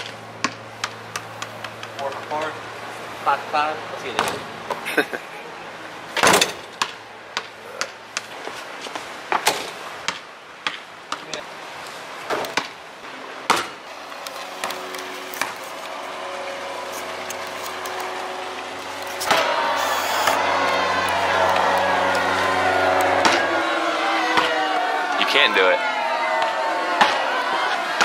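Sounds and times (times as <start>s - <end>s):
steady multi-tone hum: 0.0s - 28.0s.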